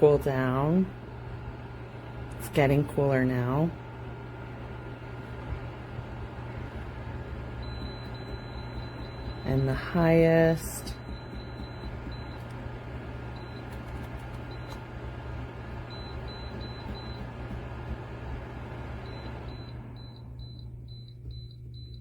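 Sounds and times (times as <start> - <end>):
space heater fan whoosh: 0.0 - 20.0
low hum: 0.0 - 22.0.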